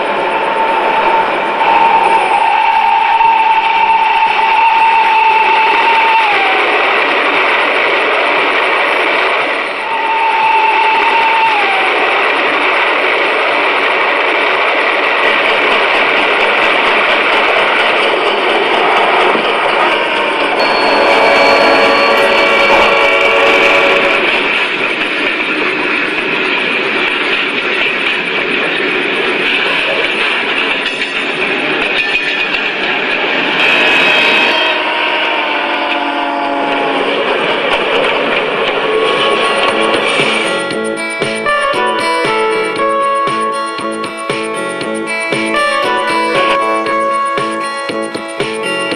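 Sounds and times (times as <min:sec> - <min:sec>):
model train wheels rolling on rails: 0:00.0 - 0:42.2.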